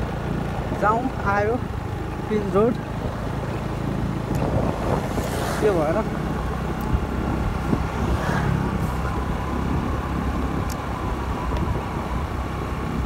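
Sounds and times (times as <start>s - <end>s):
motor scooter running: 0.0s - 13.0s
road and wind noise: 0.0s - 13.0s.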